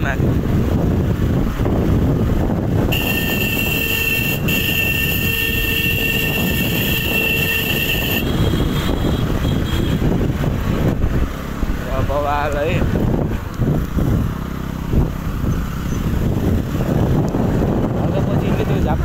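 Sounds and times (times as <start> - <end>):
motorcycle engine rumble: 0.0 - 19.0
wind buffeting microphone: 0.0 - 19.0.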